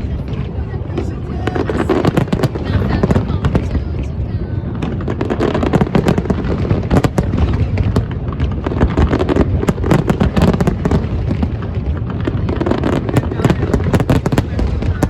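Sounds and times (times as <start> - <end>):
fireworks bangs and crackling: 0.0 - 15.0
steady low rumble: 0.0 - 15.0.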